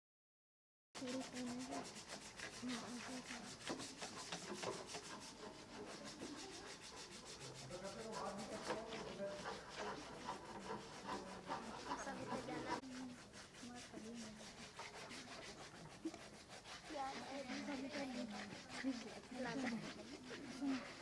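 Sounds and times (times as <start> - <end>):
sandpaper rubbing wood: 1.0 - 21.0.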